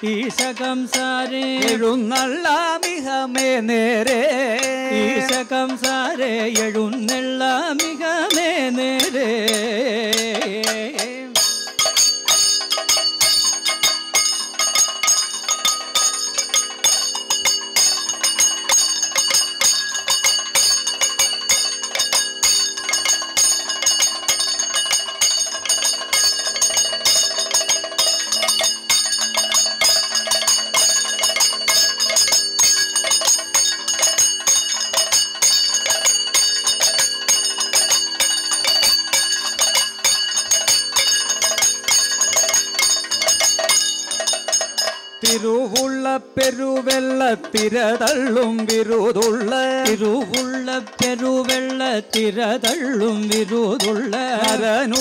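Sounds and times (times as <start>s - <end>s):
bell-metal cymbals clashing: 0.0s - 55.0s
drums beating fast: 0.0s - 55.0s.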